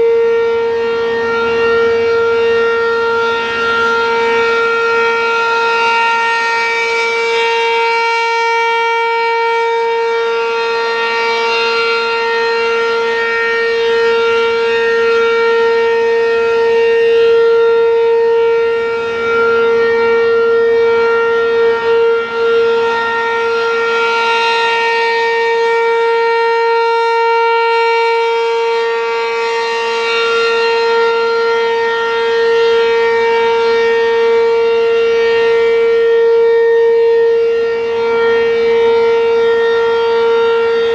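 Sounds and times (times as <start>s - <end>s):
loud single-tone electronic siren: 0.0s - 40.9s.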